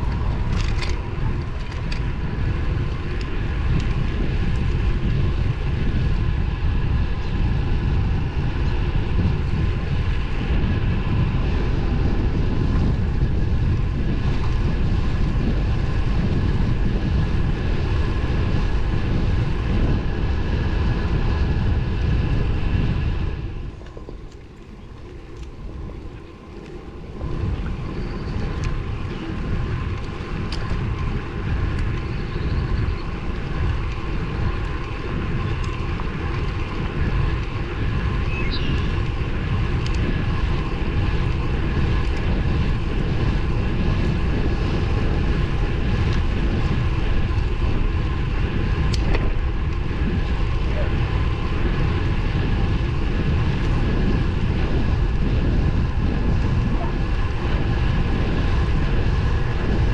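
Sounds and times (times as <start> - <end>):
tyre and road noise: 0.0 - 59.9
wind rushing over microphone: 0.0 - 59.9.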